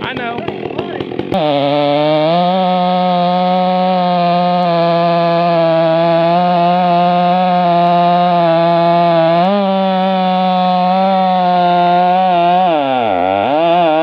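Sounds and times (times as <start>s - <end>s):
chainsaw running at high revs: 0.0s - 14.0s.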